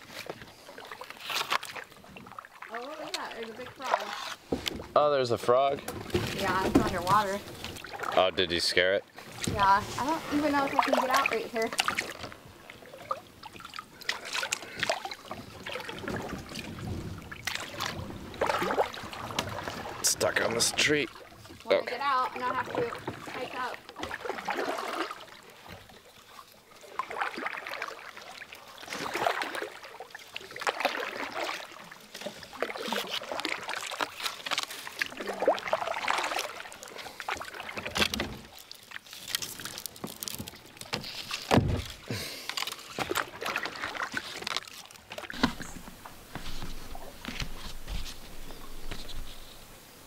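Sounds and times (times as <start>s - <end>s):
kayak paddle strokes in water: 0.0s - 50.0s.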